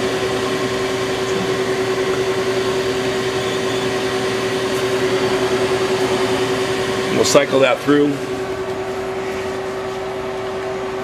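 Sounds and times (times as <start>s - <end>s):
lathe machine hum: 0.0s - 11.0s.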